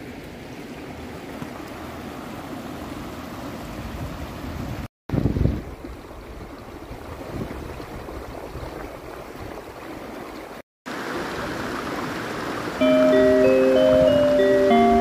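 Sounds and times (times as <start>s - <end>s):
creek water running over rocks: 0.0s - 4.7s, 5.4s - 13.5s.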